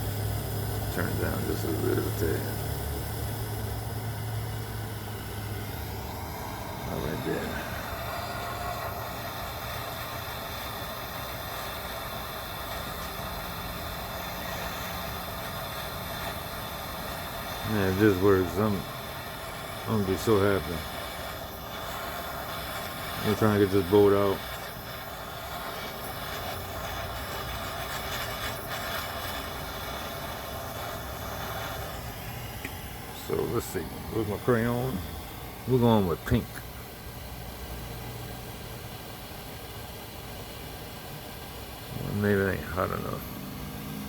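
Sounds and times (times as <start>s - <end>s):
gas torch flame hissing: 0.0s - 44.0s.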